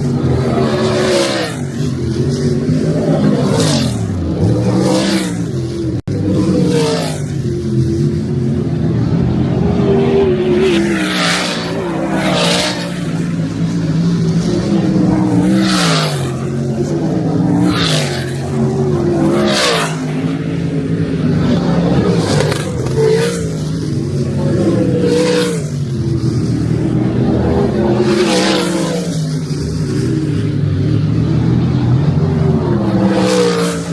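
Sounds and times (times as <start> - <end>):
cars rushing past: 0.0 - 33.9
race car engines revving: 0.0 - 33.9.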